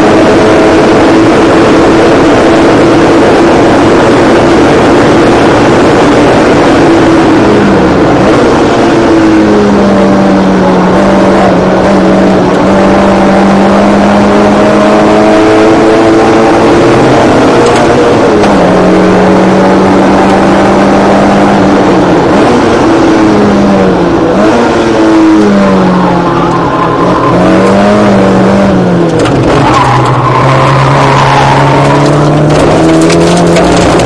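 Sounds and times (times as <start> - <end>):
race car engine at high revs: 0.0 - 34.0
road noise: 0.0 - 34.0.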